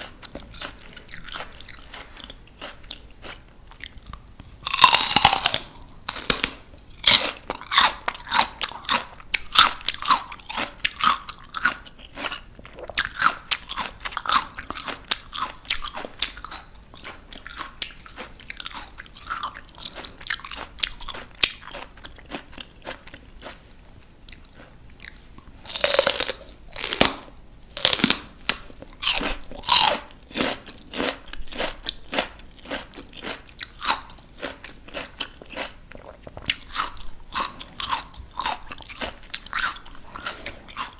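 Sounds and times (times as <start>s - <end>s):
crunching raw vegetables: 0.0s - 40.9s.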